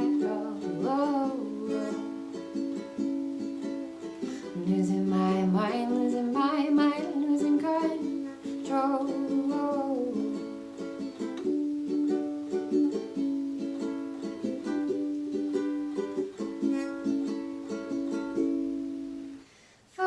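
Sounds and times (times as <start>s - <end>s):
ukulele strumming chords: 0.0s - 19.5s.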